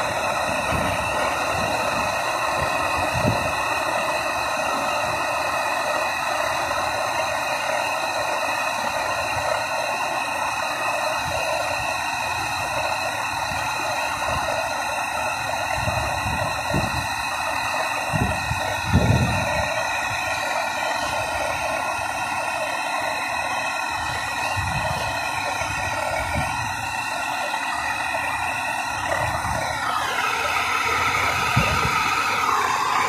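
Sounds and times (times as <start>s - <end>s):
gas torch flame hissing: 0.0s - 33.0s.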